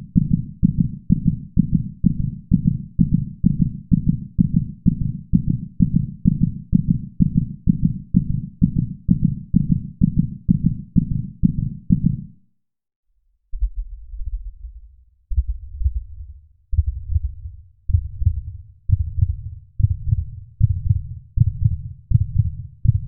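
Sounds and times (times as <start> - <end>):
heartbeat low pulses: 0.0 - 12.3, 13.5 - 23.0.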